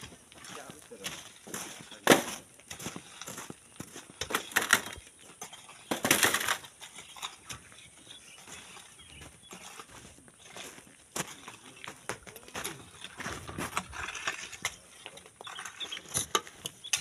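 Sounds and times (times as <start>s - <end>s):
tools scraping sand and gravel: 0.0s - 17.0s.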